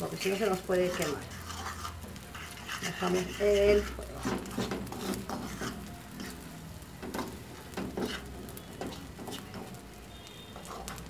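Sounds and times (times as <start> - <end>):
eggs sizzling in a pan: 0.0 - 11.0
utensil scraping a pan: 0.1 - 9.8, 10.4 - 11.0.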